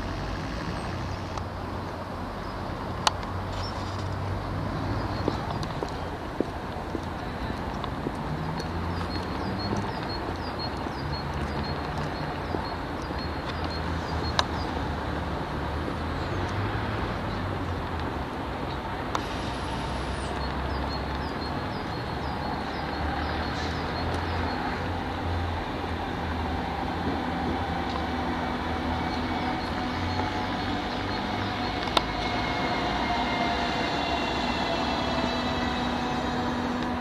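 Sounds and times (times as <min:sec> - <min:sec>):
train low rumble: 0:00.0 - 0:37.0.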